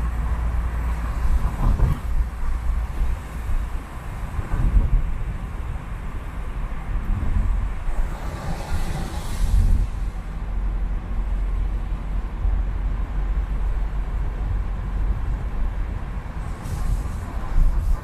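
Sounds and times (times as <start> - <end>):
traffic on a wet road: 0.0 - 18.0.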